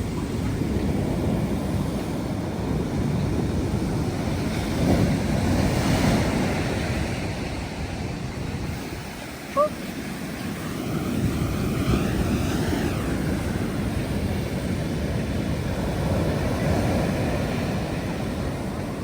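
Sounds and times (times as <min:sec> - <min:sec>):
surf waves crashing: 0:00.0 - 0:19.0
wind on microphone: 0:00.0 - 0:19.0.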